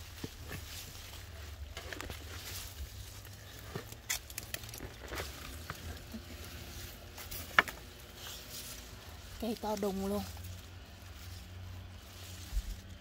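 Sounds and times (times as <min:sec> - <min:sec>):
lettuce leaves rustling: 0:00.0 - 0:13.0.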